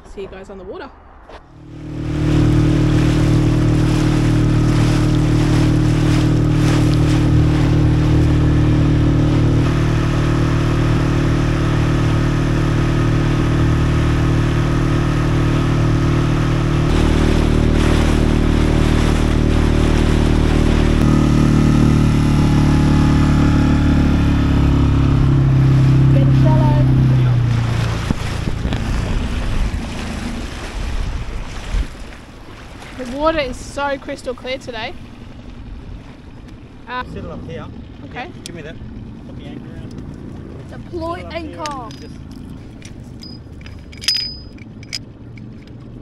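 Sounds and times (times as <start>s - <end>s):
engine running: 0.9s - 46.0s.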